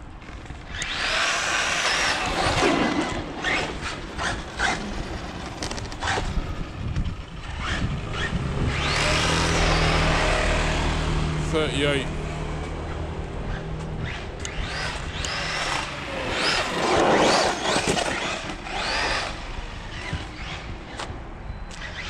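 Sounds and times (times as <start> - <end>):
electric motor whining: 0.7 - 11.4, 13.5 - 20.7.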